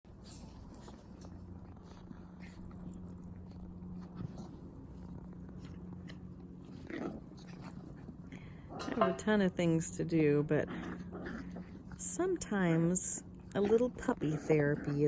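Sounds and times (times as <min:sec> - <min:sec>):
low hum: 0:00.1 - 0:15.0
puppies chewing and nibbling: 0:00.1 - 0:15.0.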